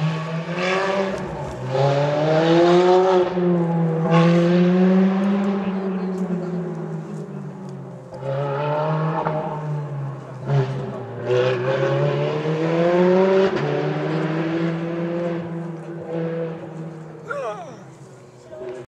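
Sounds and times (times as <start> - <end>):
car engine accelerating hard: 0.0 - 18.8.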